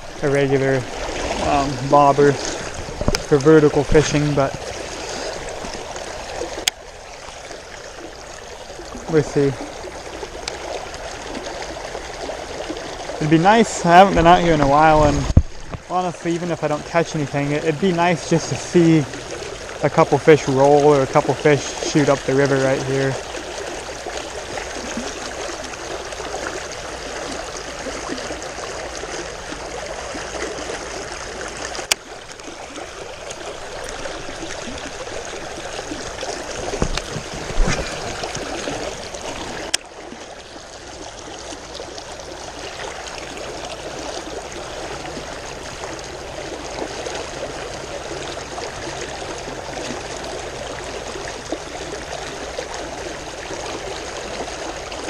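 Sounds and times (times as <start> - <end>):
river flowing and splashing: 0.0 - 55.0.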